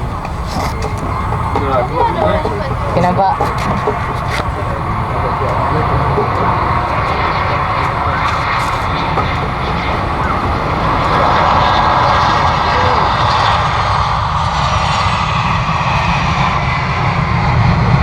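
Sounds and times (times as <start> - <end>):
jet airliner engines: 0.0 - 18.0.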